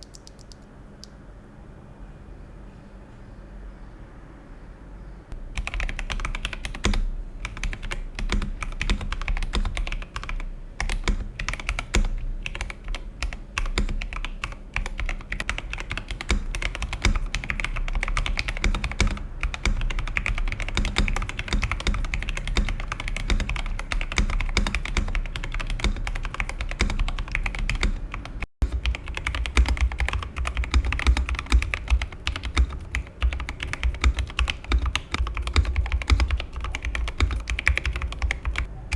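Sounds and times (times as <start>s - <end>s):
mechanical keyboard typing: 0.0s - 1.2s, 5.5s - 38.7s.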